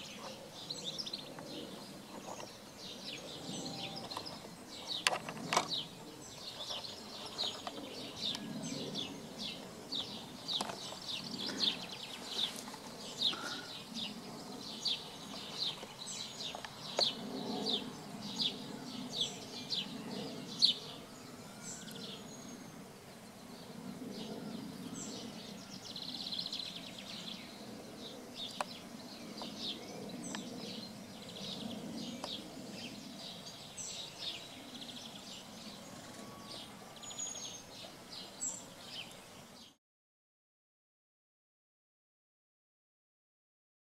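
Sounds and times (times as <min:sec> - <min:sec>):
low hum: 0:00.0 - 0:38.8
bird chirping: 0:00.0 - 0:39.8.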